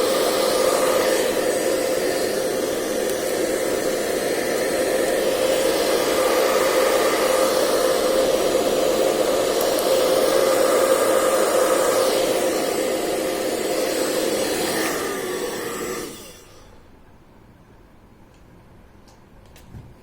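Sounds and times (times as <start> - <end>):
electric air blower running: 0.0 - 16.8.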